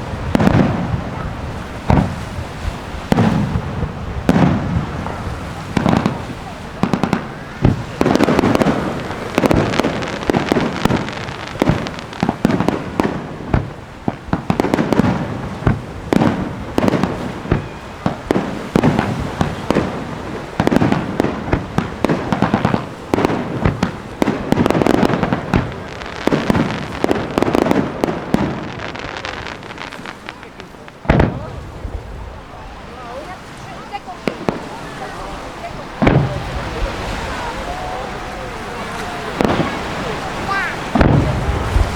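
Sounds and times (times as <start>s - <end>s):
fireworks booming: 0.0s - 41.9s
fireworks crackling: 0.0s - 41.9s.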